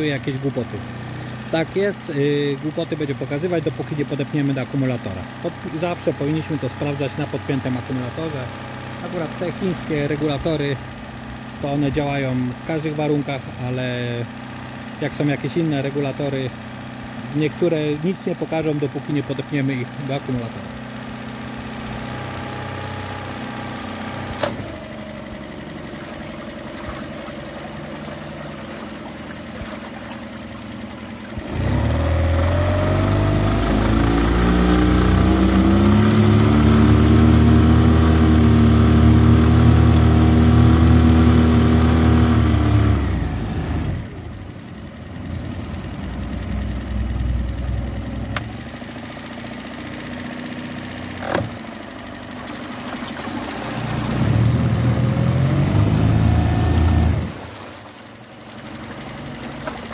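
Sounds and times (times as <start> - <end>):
outboard motor running: 0.0 - 59.9
propeller churning water: 0.0 - 59.9.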